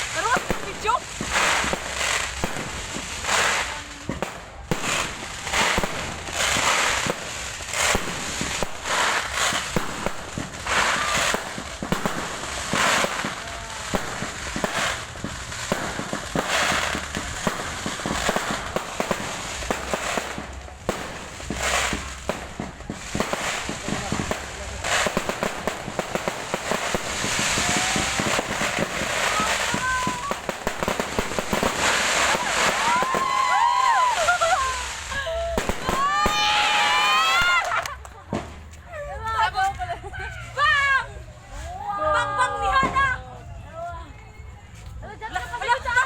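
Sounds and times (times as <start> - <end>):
fireworks bursting: 0.0 - 43.2
fireworks crackling tails: 0.0 - 43.8.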